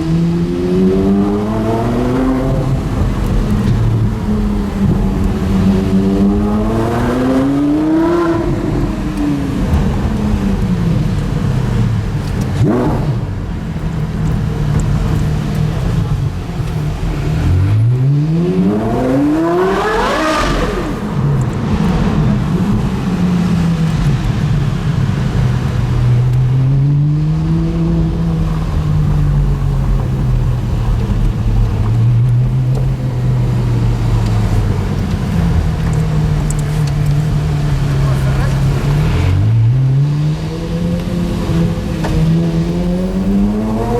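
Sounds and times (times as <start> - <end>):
sports car engine revving: 0.0 - 43.9.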